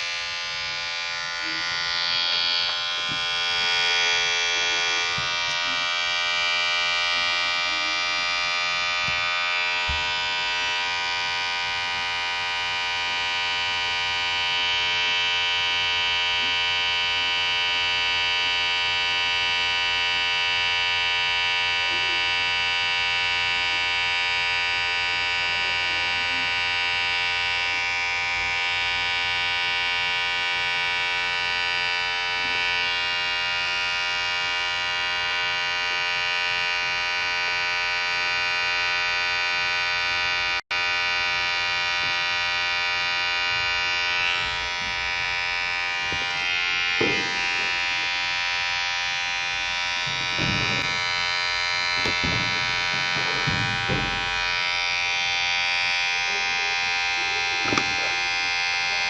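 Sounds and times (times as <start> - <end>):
electric hair clipper buzzing: 0.0 - 59.0.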